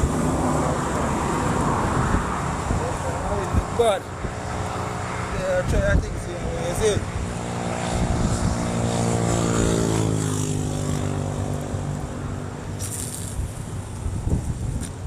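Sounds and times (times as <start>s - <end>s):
aircraft droning past: 0.0s - 14.1s.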